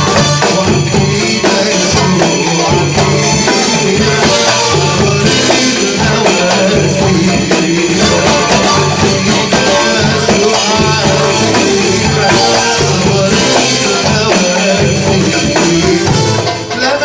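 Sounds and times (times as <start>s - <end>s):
goblet drum rhythm: 0.0s - 17.0s
keyboard: 0.0s - 17.0s.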